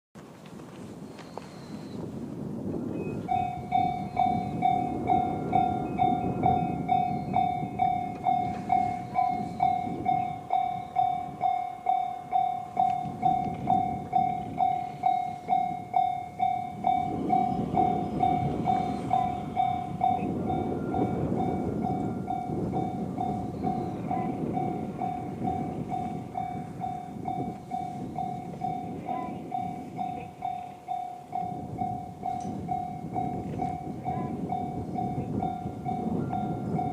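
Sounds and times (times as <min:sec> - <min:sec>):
level-crossing warning bell: 0:02.8 - 0:36.9.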